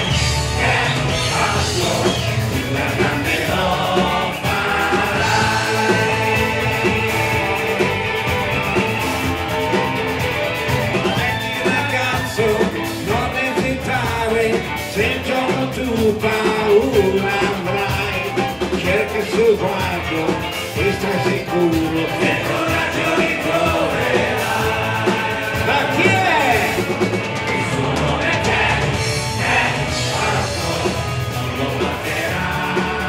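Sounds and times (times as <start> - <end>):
rock band playing: 0.0 - 33.0
man singing: 0.6 - 7.8, 11.1 - 26.9, 27.6 - 33.0.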